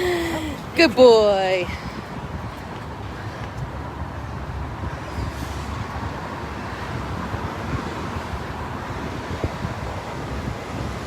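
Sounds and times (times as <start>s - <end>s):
road traffic hiss: 0.0s - 11.0s
wind rumble on microphone: 0.0s - 11.0s.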